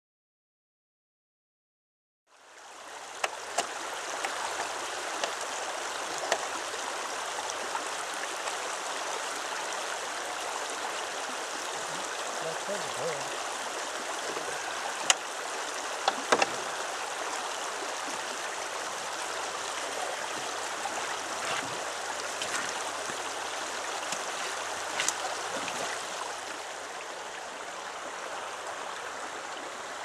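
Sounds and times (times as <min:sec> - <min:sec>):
creek water running: 0:02.3 - 0:30.0.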